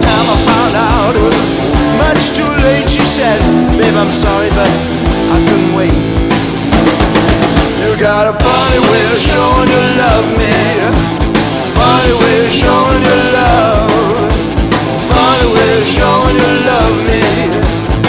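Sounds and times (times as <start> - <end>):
hard rock band playing: 0.0 - 18.0.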